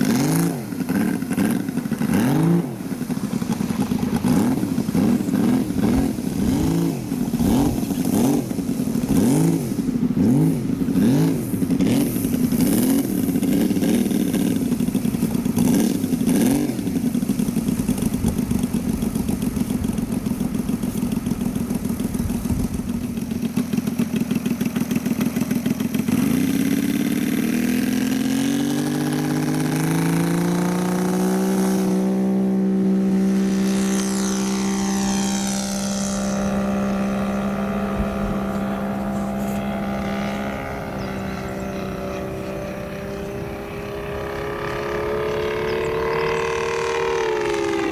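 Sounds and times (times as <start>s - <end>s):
model airplane engine running: 0.0s - 47.9s.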